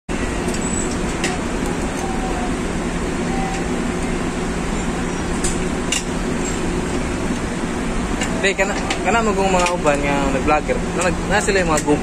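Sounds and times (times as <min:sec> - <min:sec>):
heavy machinery droning: 0:00.1 - 0:12.0.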